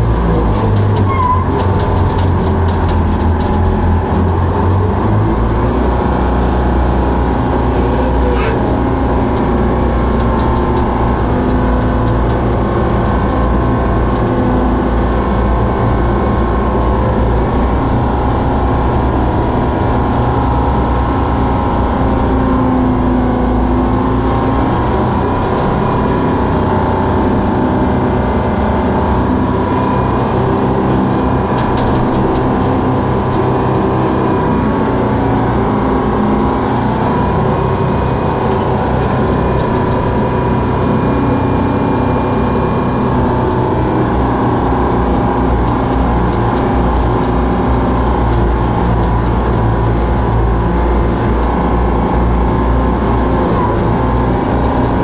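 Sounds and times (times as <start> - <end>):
dragline engine running: 0.0 - 55.0.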